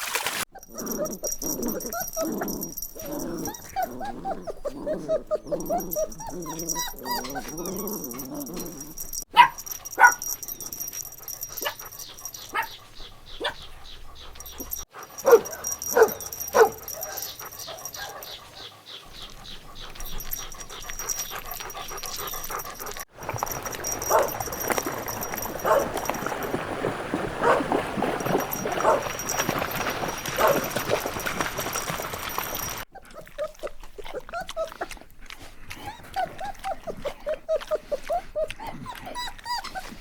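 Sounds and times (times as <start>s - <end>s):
dogs yipping and barking: 0.4s - 40.0s.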